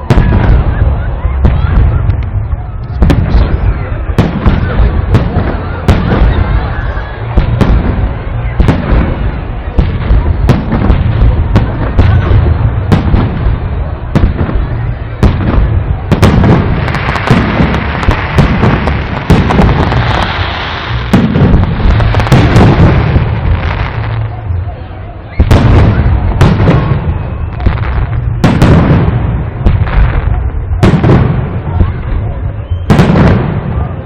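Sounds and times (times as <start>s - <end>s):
fireworks bangs: 0.0s - 34.0s
fireworks crackle: 0.0s - 34.0s.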